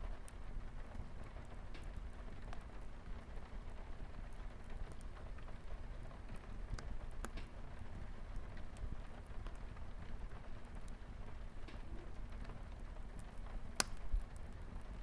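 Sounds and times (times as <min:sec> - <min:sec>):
light rain on a window: 0:00.0 - 0:15.0
wood fire crackling and popping: 0:00.0 - 0:15.0.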